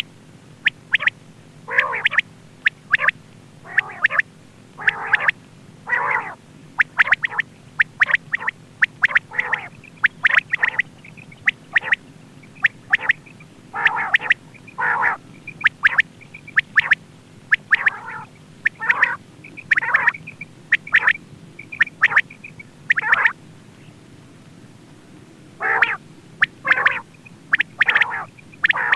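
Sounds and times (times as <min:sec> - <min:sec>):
quail calling: 0:00.0 - 0:24.0, 0:25.6 - 0:28.9.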